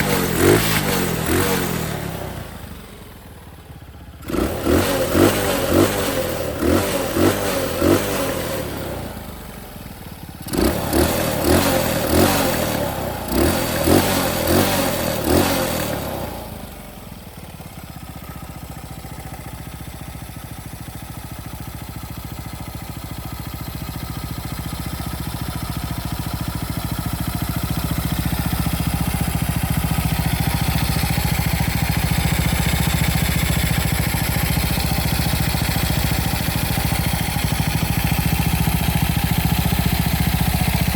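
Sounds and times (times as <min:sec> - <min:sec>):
motorcycle engine idling: 0:00.0 - 0:40.9
motorcycle engine revving: 0:00.0 - 0:40.9.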